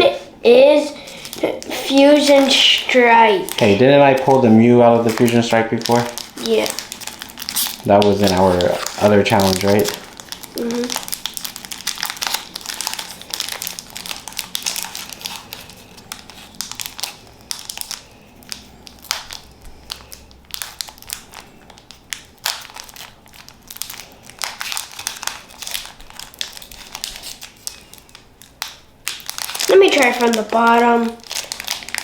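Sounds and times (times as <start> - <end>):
foil wrapper crinkling: 0.0 - 32.0.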